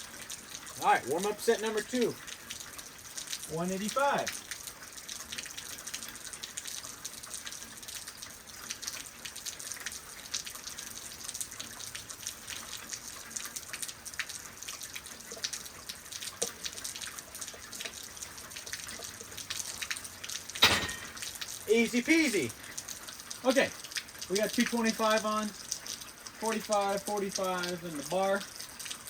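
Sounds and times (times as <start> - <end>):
rain falling: 0.0 - 29.0
raindrops ticking and splashing: 0.0 - 29.0.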